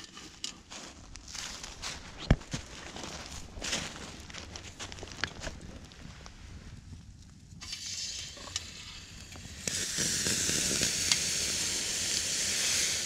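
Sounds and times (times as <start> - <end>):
wood fire sizzling and hissing: 0.0 - 13.0.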